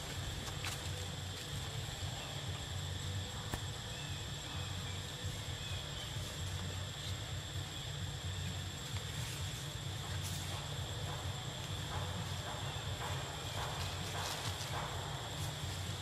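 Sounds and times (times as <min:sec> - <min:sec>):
insects droning high-pitched: 0:00.0 - 0:16.0.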